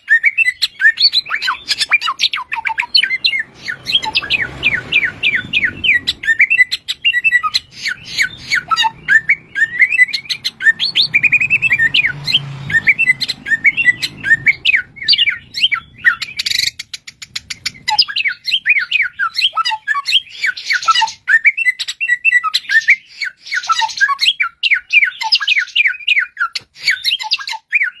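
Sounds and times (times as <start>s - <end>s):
bird singing whistled song: 0.0s - 28.0s.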